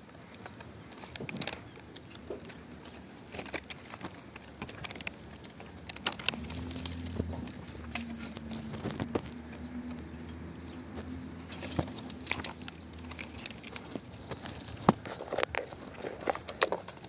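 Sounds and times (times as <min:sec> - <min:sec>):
dry grass and leaves rustling: 0:00.0 - 0:17.0.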